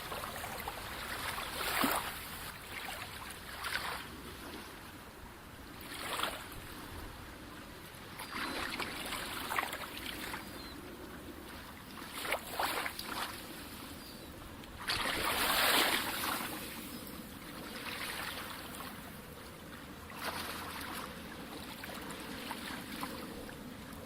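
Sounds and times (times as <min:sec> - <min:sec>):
waves splashing: 0:00.0 - 0:24.0.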